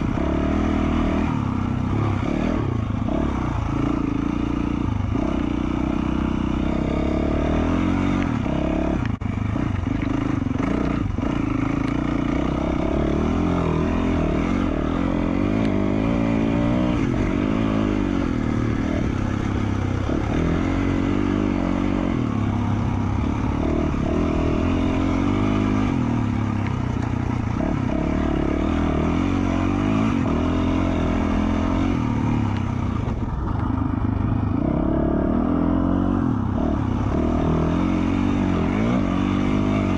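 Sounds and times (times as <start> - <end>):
dirt bike engine revving: 0.0 - 33.4, 34.2 - 39.9.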